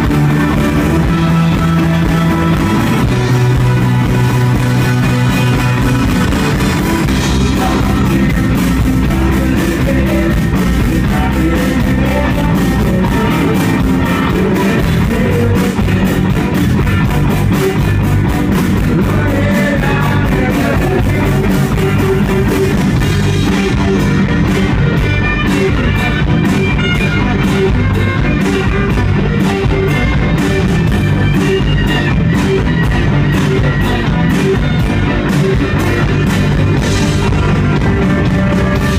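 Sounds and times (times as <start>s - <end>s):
bass guitar: 0.0s - 38.9s
drum kit steady beat: 0.0s - 38.9s
electric guitars: 0.0s - 38.9s.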